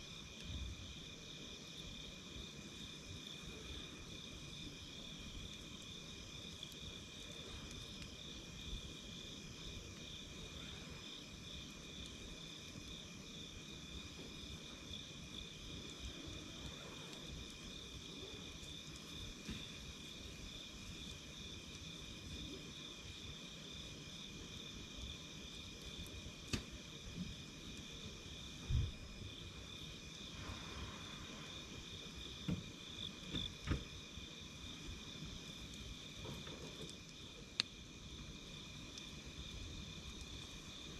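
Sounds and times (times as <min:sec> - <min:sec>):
campfire crackling and popping: 0:00.0 - 0:30.4, 0:31.6 - 0:40.9
crickets trilling: 0:00.0 - 0:40.9.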